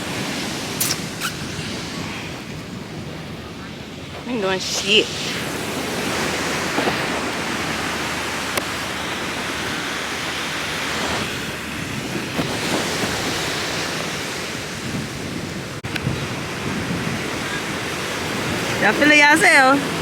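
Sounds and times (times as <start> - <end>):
ocean surf washing in: 0.0 - 20.0
wind on microphone: 0.0 - 20.0.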